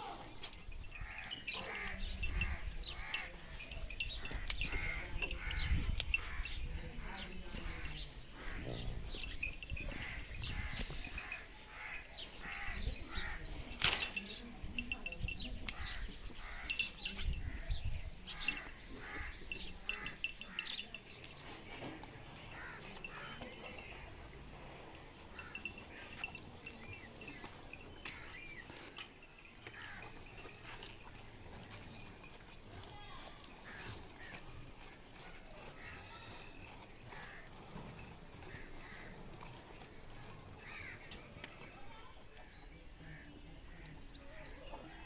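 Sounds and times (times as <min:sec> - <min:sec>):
small birds chirping: 0:00.2 - 0:45.0.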